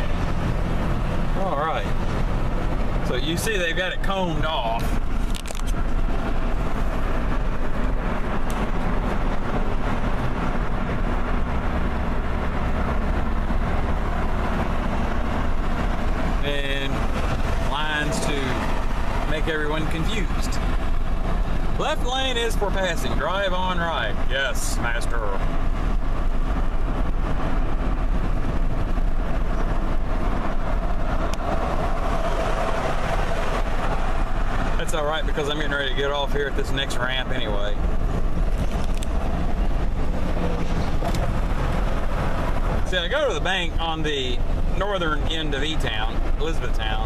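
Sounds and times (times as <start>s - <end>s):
car engine and tyre rumble: 0.0s - 47.0s
wind and road hiss: 0.0s - 47.0s.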